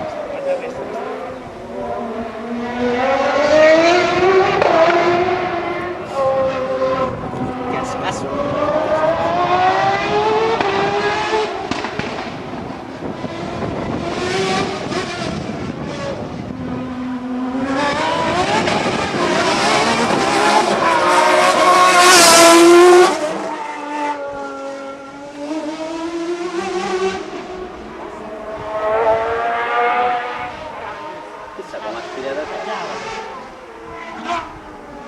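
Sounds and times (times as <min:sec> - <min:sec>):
racing car engine passing: 0:00.0 - 0:35.0.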